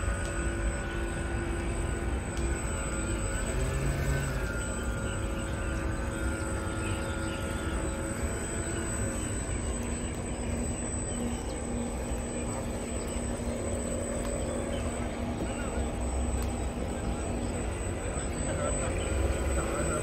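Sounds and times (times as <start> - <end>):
model boat motors whining: 0.0 - 20.0.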